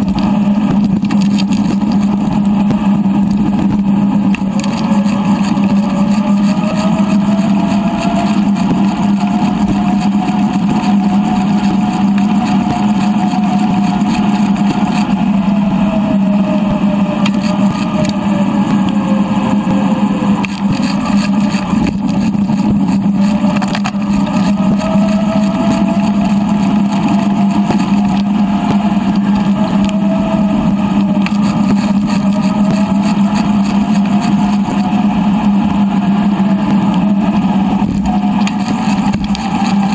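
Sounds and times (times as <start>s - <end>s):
high-pitched whine: 0.0s - 39.9s
sped-up wind and tyre hum: 0.0s - 39.9s.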